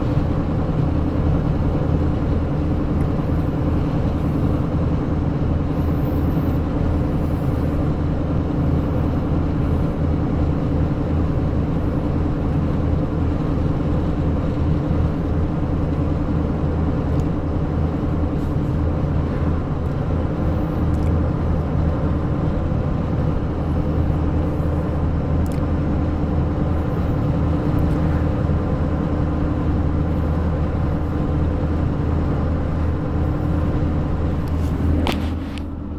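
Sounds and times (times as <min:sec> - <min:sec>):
engine drone inside truck cab: 0:00.0 - 0:35.9.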